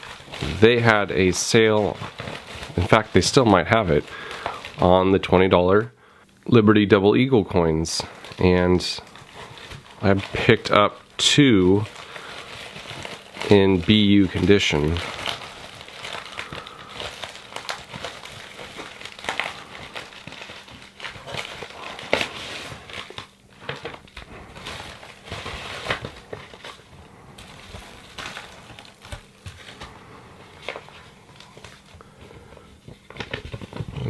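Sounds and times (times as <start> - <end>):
paper and cardboard crinkling: 0.0 - 5.9, 7.2 - 34.0.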